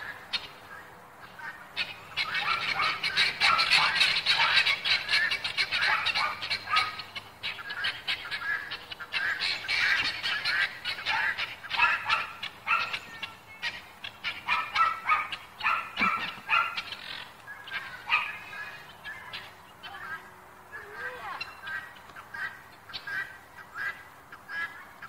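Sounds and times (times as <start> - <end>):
guinea fowl calling: 0.0 - 25.0.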